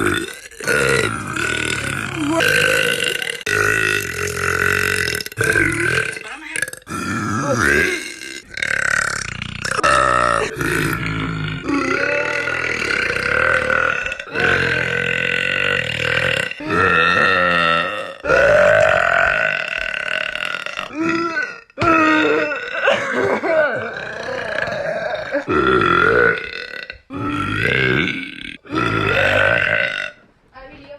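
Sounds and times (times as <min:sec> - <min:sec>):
woman burping loudly: 0:00.0 - 0:30.3.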